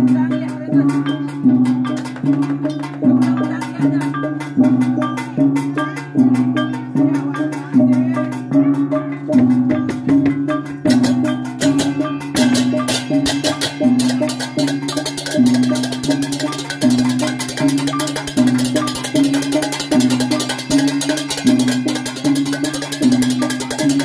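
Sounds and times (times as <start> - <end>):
cymbals clashing: 0.0 - 24.0
hand drums: 0.0 - 24.0
gongs struck: 0.8 - 24.0.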